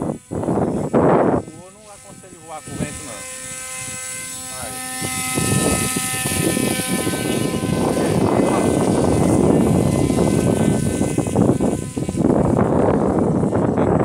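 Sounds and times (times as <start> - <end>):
propeller motor droning: 0.0 - 14.0
rumbling buffeting noise: 0.0 - 14.0.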